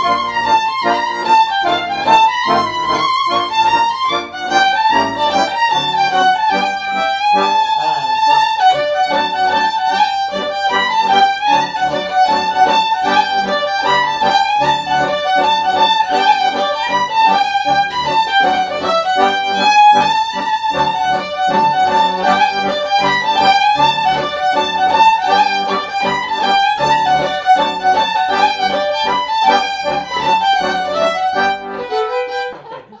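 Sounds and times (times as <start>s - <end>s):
rhythmic chordal accompaniment: 0.0s - 33.0s
violin folk melody: 0.0s - 33.0s.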